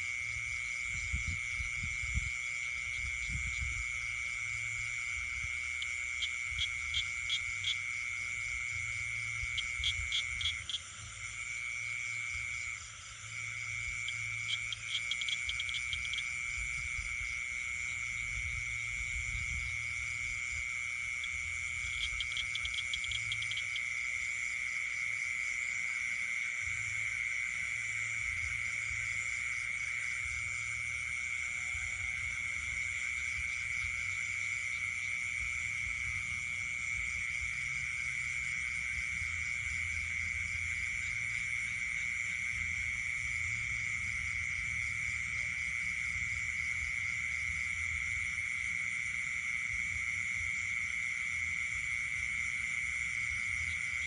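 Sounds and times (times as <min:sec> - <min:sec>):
frogs calling: 0:00.0 - 0:54.0
insects trilling: 0:00.0 - 0:54.0.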